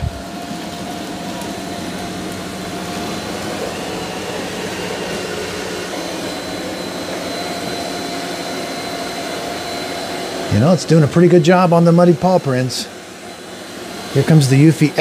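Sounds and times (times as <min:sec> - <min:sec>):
robot vacuum humming and whining: 0:00.0 - 0:15.0.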